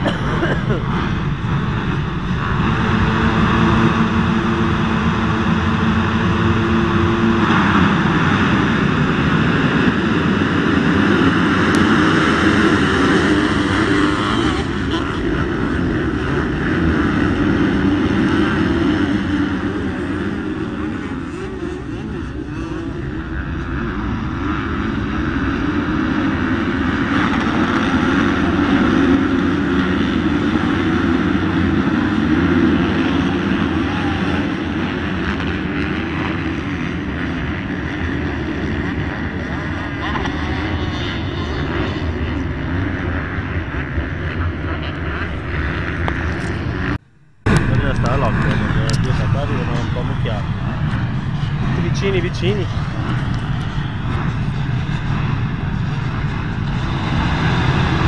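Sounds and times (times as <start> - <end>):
motocross bikes racing: 0.0 - 58.0.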